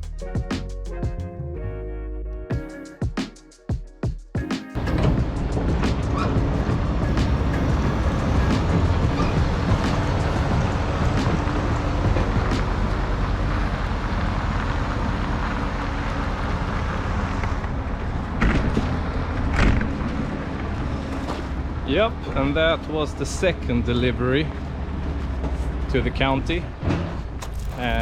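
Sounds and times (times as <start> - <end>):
engine rumbling: 4.8 - 28.0.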